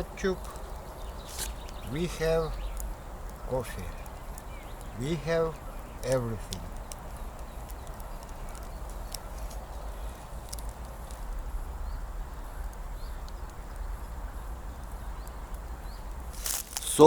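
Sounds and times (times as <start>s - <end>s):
embers crackling and popping: 0.0s - 17.0s
steady low rumble: 0.0s - 17.0s.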